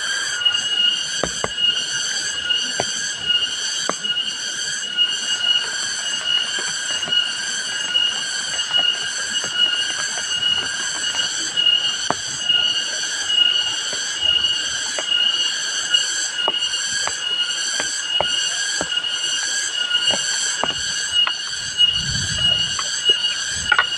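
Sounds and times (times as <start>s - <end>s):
forest insects buzzing: 0.0s - 23.9s.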